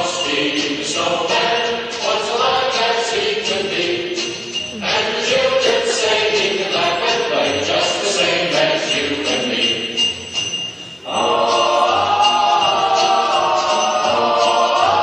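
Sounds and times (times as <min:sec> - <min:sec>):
festive music with jingle bells: 0:00.0 - 0:15.0
voices singing: 0:00.0 - 0:15.0.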